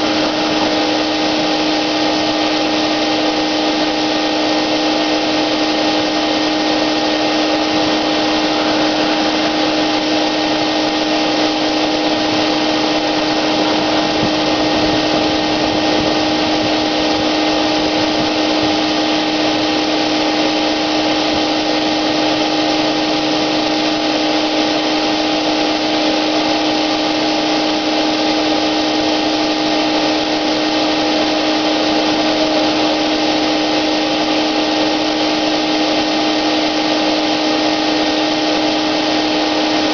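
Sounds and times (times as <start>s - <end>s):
air rushing through hose: 0.0s - 39.9s
paint sprayer motor whine: 0.0s - 39.9s.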